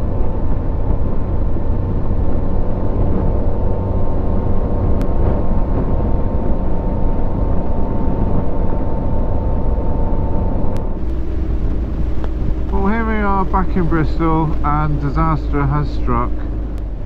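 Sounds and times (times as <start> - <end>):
wind buffeting the microphone: 0.0 - 14.7
faint steady whine: 0.0 - 17.0
motorcycle engine drone: 0.0 - 17.0
road noise: 0.0 - 17.0
rushing wind: 0.0 - 17.0.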